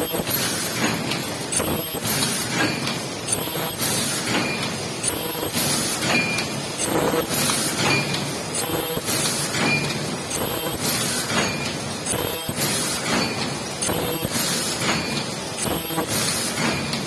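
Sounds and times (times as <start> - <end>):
machine hissing and clacking: 0.0 - 17.0.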